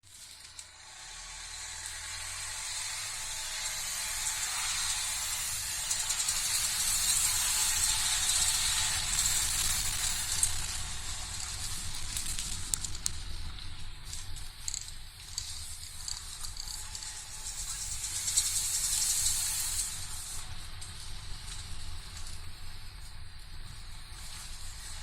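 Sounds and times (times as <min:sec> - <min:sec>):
tyre and road hiss: 0:00.1 - 0:25.0.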